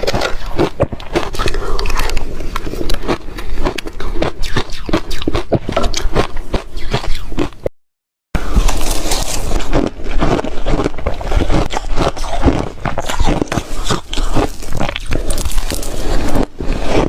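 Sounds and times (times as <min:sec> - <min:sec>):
ice being chewed: 0:00.0 - 0:07.7, 0:08.5 - 0:17.0.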